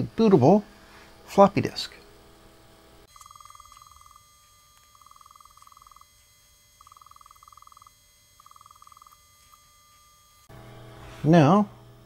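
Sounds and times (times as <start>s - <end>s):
disk drive pulsing buzz: 0.0s - 12.0s.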